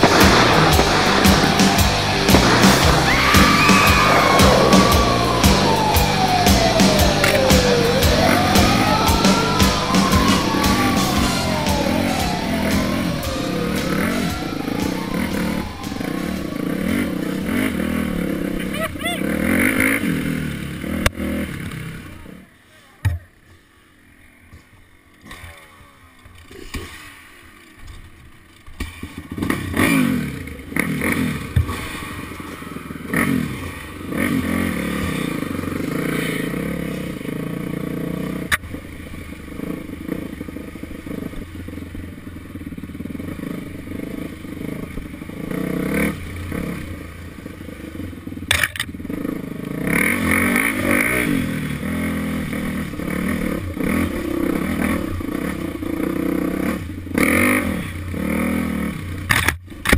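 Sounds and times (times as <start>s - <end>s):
dirt bike engine revving: 0.0s - 22.5s, 29.0s - 59.5s.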